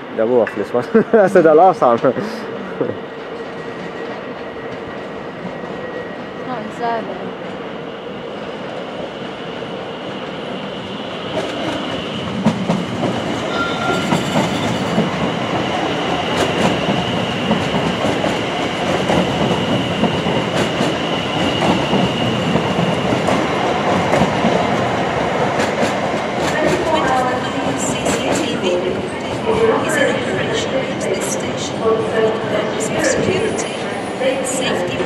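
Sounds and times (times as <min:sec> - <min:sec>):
electric train passing: 0:00.0 - 0:35.0.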